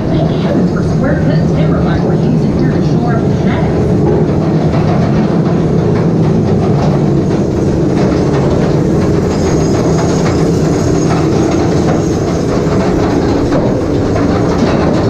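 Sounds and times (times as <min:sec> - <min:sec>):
ore cars rumbling on track: 0:00.0 - 0:15.0
wheels rattling clatter: 0:00.0 - 0:15.0.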